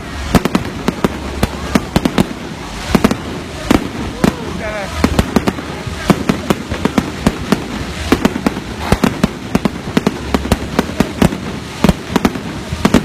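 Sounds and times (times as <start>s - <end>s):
fireworks banging and cracking: 0.0s - 13.0s.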